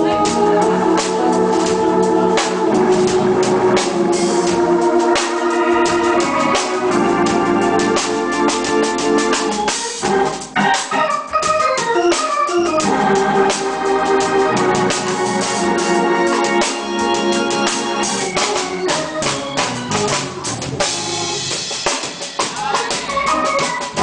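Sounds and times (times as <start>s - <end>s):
organ playing gospel chords: 0.0s - 24.0s.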